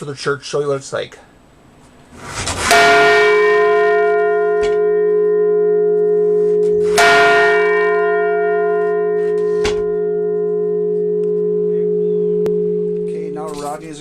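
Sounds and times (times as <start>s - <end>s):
small church bell ringing: 2.6s - 14.0s.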